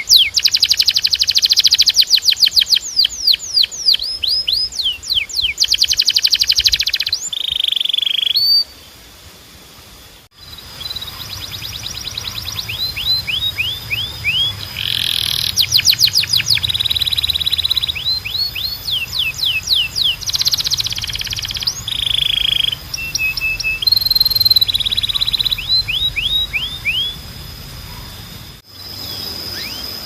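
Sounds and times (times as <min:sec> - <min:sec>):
canary singing trills: 0:00.0 - 0:09.0, 0:10.4 - 0:30.0.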